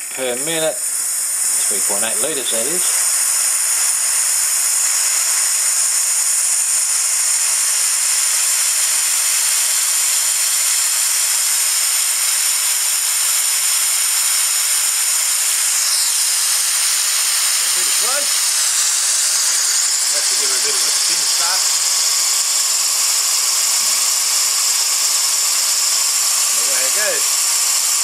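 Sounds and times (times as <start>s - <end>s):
compressed air hissing: 0.0s - 28.0s.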